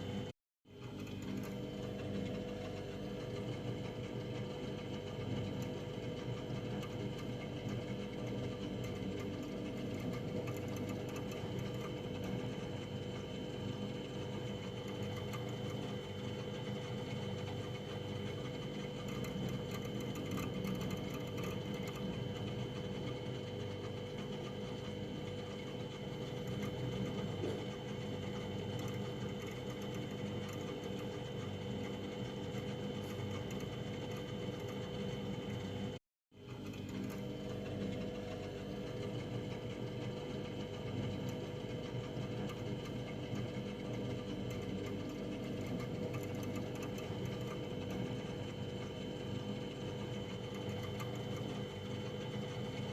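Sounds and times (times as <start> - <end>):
constant whine: 0.0 - 52.9
freezer humming: 0.0 - 52.9.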